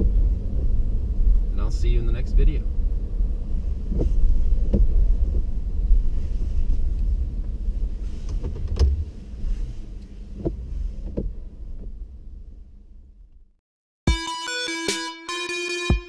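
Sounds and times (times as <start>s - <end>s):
engine and road rumble: 0.0s - 13.6s.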